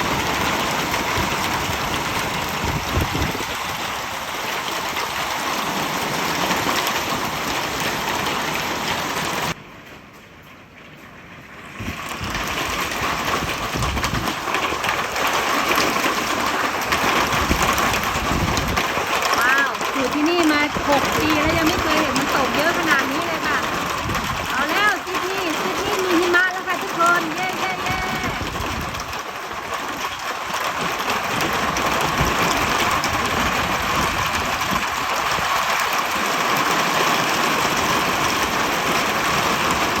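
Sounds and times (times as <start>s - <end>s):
hailstones hitting hard surfaces: 0.0s - 10.0s, 10.9s - 40.0s.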